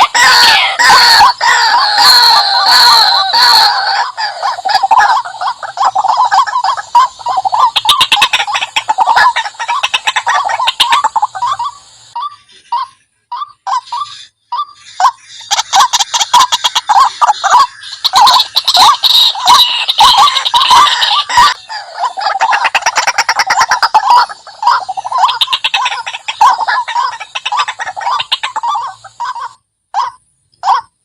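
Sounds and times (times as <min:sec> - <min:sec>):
waterhen calling: 0:00.0 - 0:30.9.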